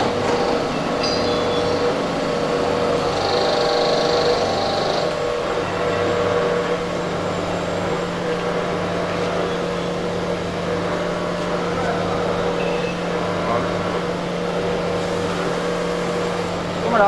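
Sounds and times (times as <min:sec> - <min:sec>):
forging machine motor humming: 0:00.0 - 0:17.0.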